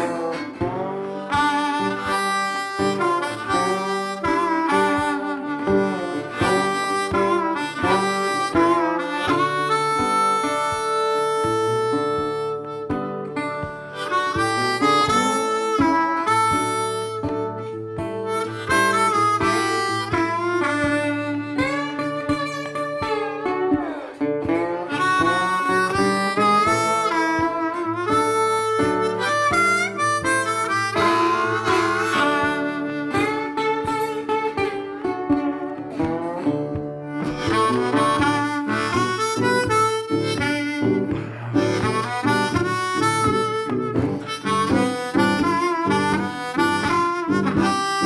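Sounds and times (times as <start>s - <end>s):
blues harmonica: 0.0s - 48.0s
guitar: 0.0s - 48.0s.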